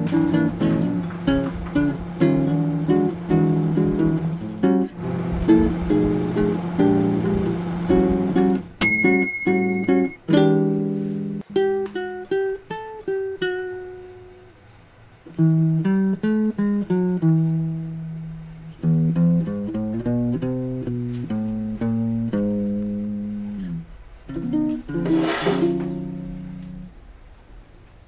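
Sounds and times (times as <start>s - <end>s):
acoustic guitar plucked melody: 0.0s - 14.6s, 15.2s - 26.9s.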